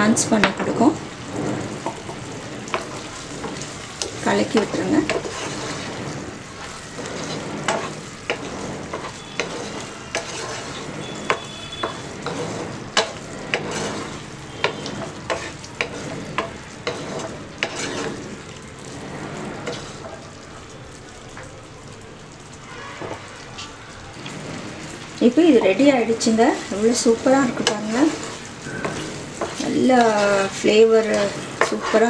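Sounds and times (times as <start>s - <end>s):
syrup sizzling: 0.0s - 32.0s
spatula scraping a pan: 0.1s - 20.5s, 22.6s - 32.0s.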